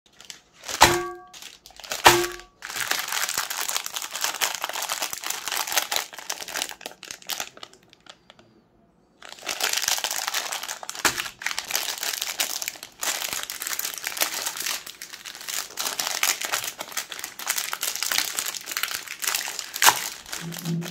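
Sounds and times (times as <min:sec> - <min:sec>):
foil wrappers crinkling: 0:00.1 - 0:08.4, 0:09.2 - 0:20.9.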